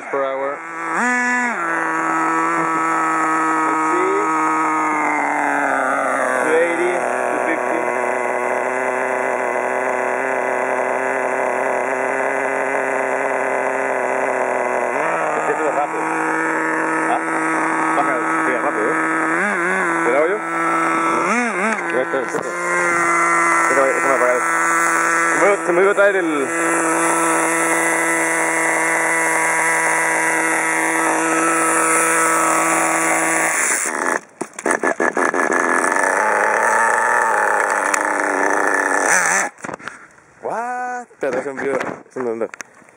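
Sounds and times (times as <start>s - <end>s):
small nitro engine idling: 0.0s - 42.9s.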